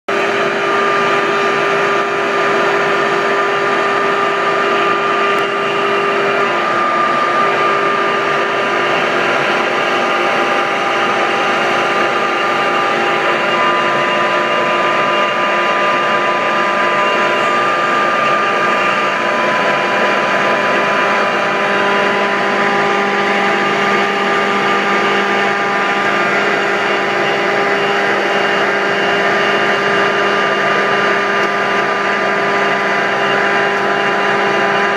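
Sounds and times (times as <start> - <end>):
cnc router whining: 0.1 - 34.9.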